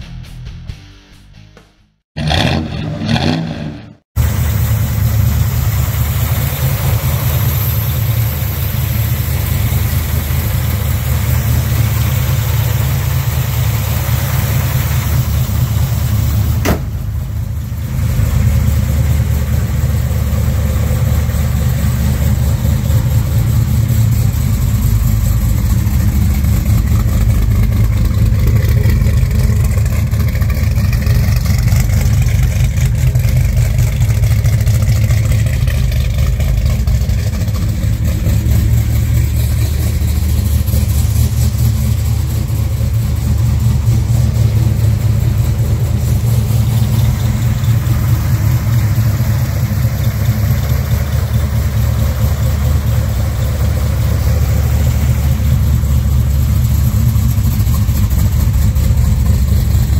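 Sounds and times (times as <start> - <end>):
car engine idling: 2.2 - 59.9.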